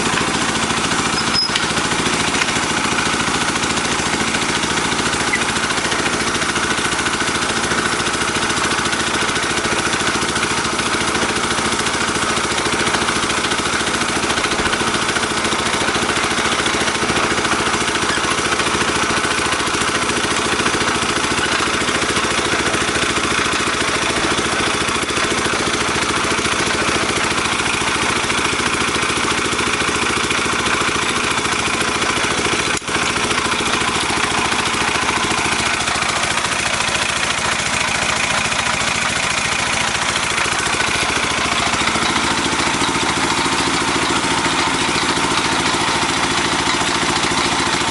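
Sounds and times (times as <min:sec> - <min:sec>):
drilling rig engine running: 0:00.0 - 0:47.9.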